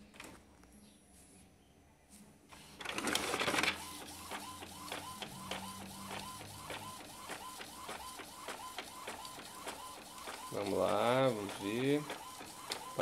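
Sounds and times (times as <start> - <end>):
printer carriage moving: 2.6 - 13.0
printer drawing in paper: 2.6 - 13.0.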